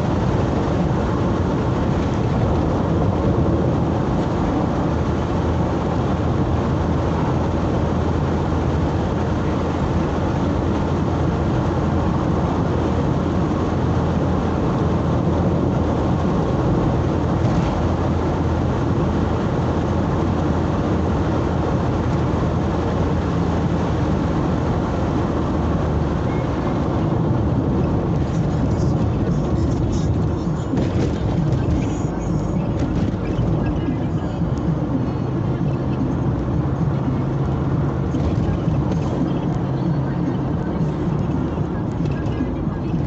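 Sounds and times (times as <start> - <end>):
vehicle engine and road noise: 0.0 - 43.0.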